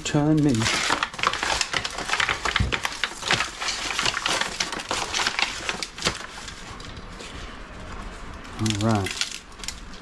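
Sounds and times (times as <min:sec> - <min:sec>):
crinkling and crackling of handling meat: 0:00.0 - 0:10.0.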